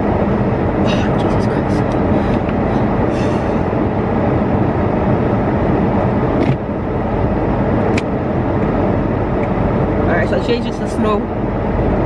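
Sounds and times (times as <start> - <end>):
car engine running from inside cabin: 0.0 - 12.0.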